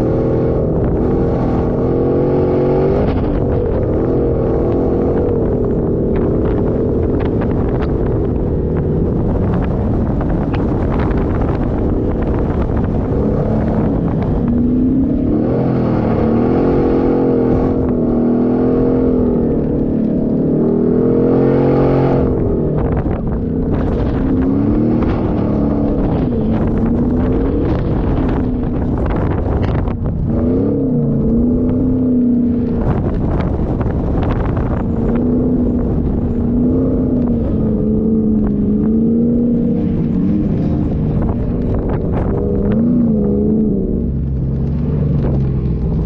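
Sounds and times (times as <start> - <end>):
off-road vehicle engine revving: 0.0 - 46.0.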